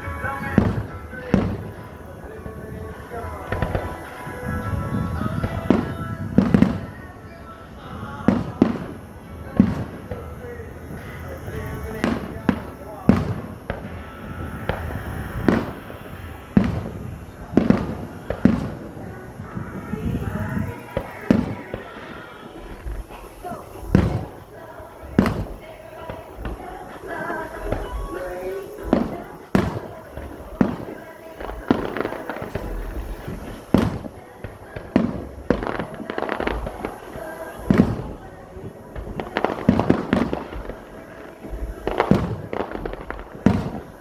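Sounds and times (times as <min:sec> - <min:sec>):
fireworks bursting: 0:00.0 - 0:44.0.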